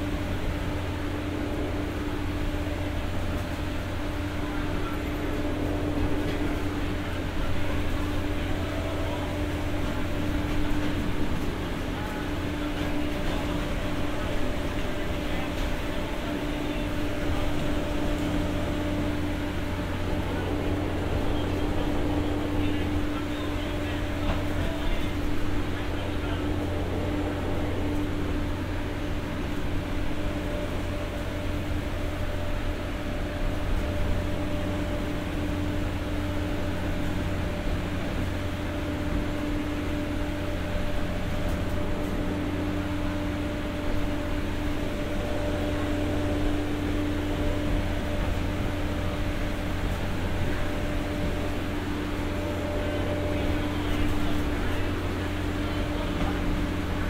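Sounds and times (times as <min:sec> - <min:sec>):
generator humming: 0:00.0 - 0:57.0.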